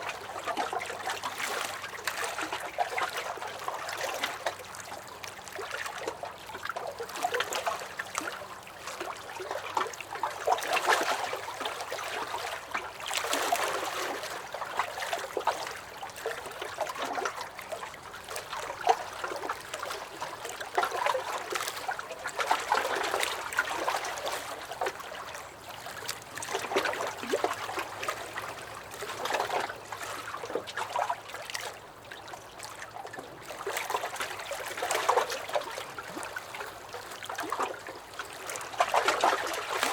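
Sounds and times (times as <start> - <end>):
waves lapping against a dock: 0.0 - 39.9.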